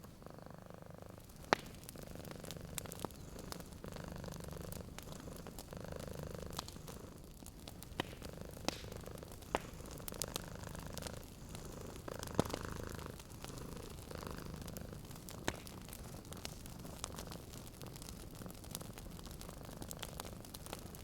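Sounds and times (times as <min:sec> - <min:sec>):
cat purring: 0:00.0 - 0:21.0
wood fire crackling and popping: 0:00.0 - 0:21.0.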